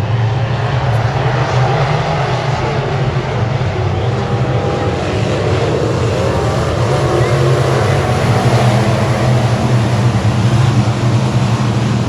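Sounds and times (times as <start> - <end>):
dense rushing noise: 0.0 - 12.0
race car engine running hard: 0.0 - 12.0.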